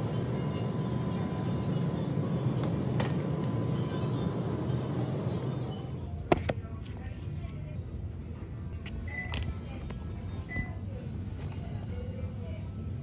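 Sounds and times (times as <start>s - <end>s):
freezer and ventilation hum: 0.0s - 13.0s.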